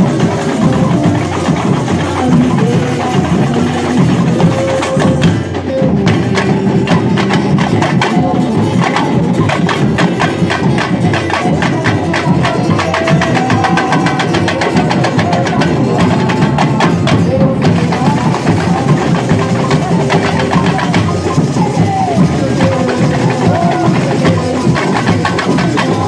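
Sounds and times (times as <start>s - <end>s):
samba percussion ensemble: 0.0s - 26.0s
sharp clicking percussion hits: 0.0s - 26.0s.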